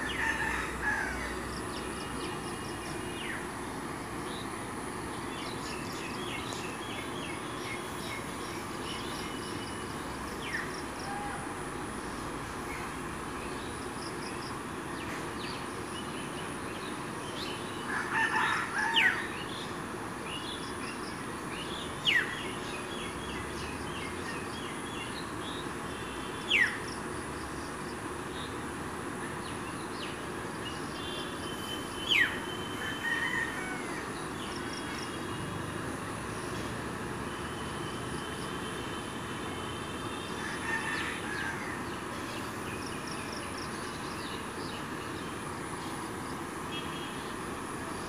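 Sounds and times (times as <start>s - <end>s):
steady low background noise: 0.0s - 48.0s.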